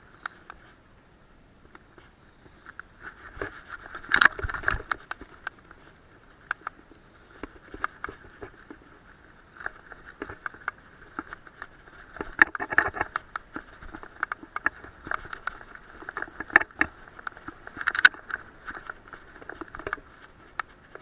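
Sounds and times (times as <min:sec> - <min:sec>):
bicycle rattling over rough track: 0:01.6 - 0:21.0.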